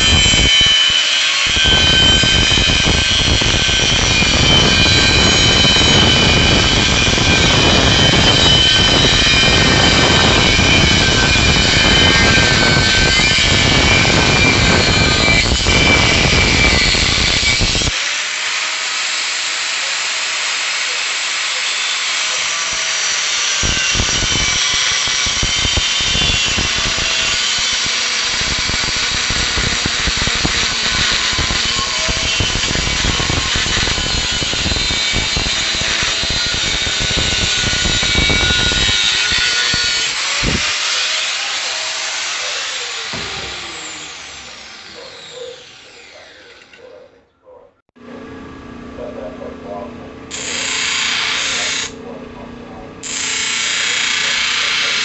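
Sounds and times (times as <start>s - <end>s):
drill press working material: 0.0s - 46.8s, 50.3s - 52.0s, 53.0s - 55.0s.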